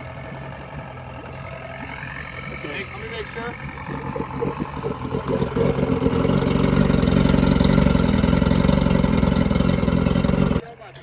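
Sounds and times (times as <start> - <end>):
outboard motor running: 0.0 - 10.6.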